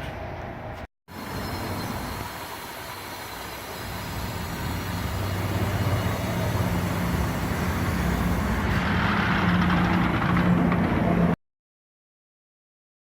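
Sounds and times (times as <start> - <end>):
tyre road noise: 0.0 - 11.4.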